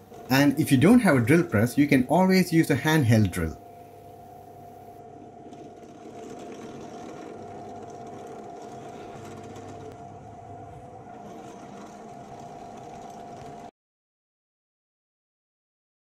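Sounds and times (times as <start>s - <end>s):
drill press motor whining: 0.0s - 13.7s.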